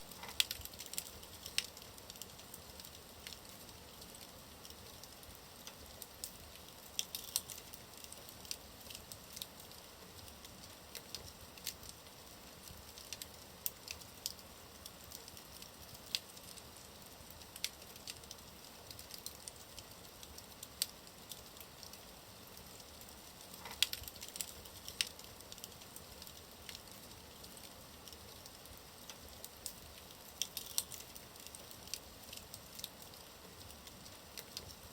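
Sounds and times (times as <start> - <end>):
fire crackling and popping: 0.0 - 34.9
wood fire hissing: 0.0 - 34.9.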